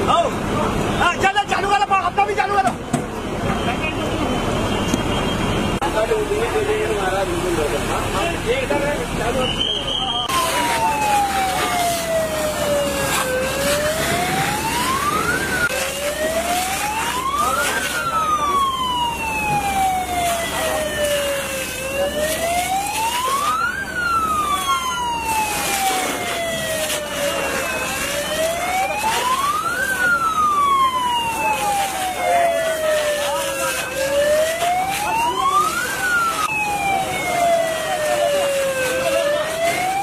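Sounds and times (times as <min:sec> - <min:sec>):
emergency siren wailing: 0:00.0 - 0:40.0.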